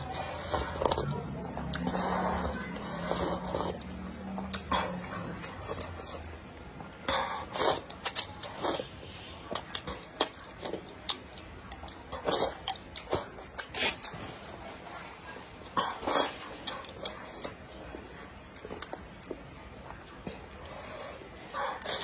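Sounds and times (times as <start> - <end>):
slurping noodle soup: 0.0 - 6.4, 7.0 - 11.1, 11.7 - 17.6, 20.4 - 22.0.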